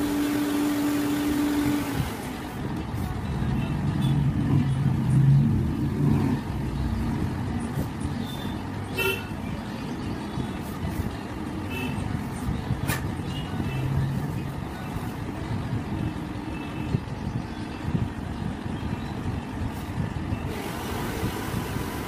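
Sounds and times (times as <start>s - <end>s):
rumble of traffic engines: 0.0s - 22.0s.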